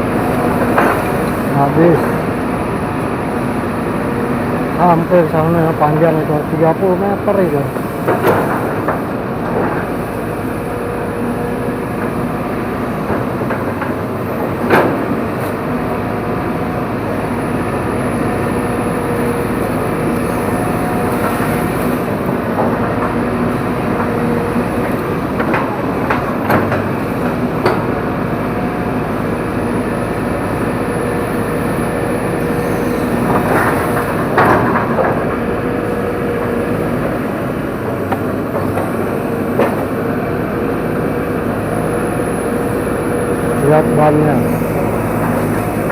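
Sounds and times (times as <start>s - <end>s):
excavator engine drone: 0.0s - 45.9s.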